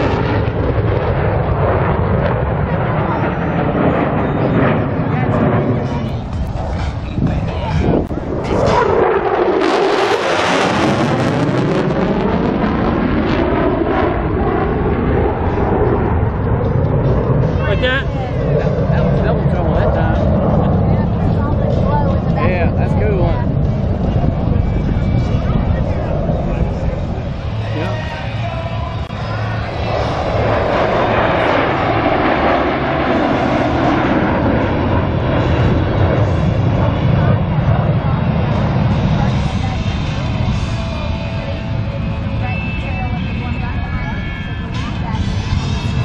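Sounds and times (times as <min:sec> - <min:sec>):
fighter jet roar: 0:00.0 - 0:46.0.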